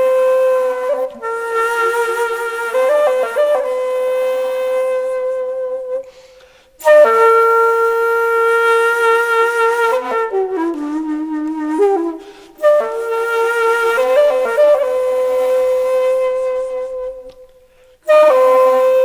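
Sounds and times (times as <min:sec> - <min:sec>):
solo wind instrument melody: 0:00.0 - 0:06.2, 0:06.8 - 0:19.0.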